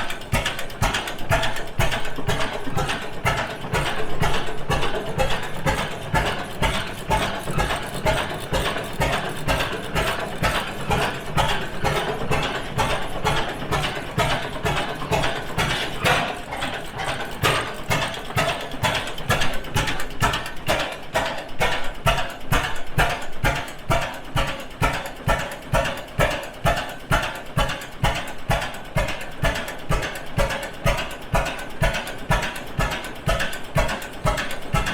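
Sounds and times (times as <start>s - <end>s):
clatter of mechanism: 0.0s - 34.9s
old engine running: 0.0s - 34.9s.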